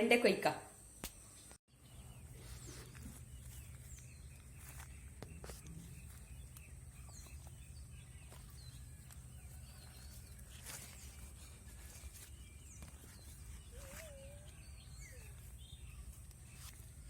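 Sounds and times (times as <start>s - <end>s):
small birds chirping: 0.8s - 17.0s
clicks and rustles in plants: 2.3s - 17.0s.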